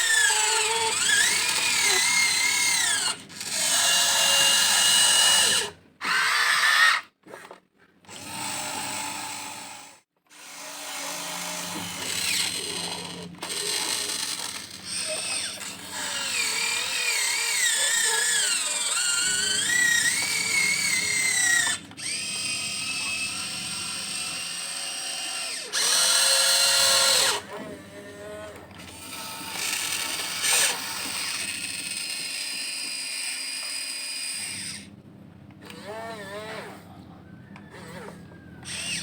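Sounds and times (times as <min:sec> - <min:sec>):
electric motors whining: 0:00.0 - 0:07.0, 0:08.1 - 0:35.0, 0:35.6 - 0:39.0.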